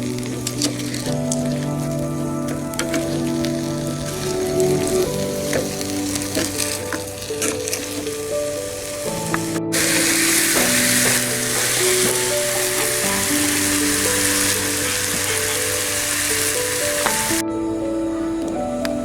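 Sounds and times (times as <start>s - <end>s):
food sizzling in frying: 0.0s - 17.4s
background music: 0.0s - 19.0s.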